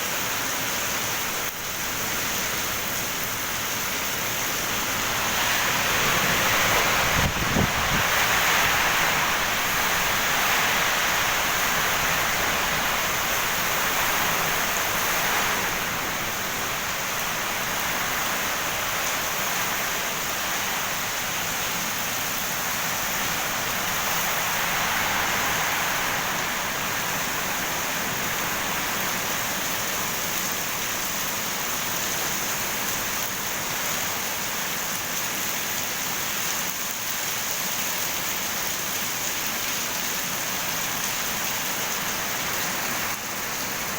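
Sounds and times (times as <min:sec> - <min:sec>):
rain pouring: 0:00.0 - 0:43.9.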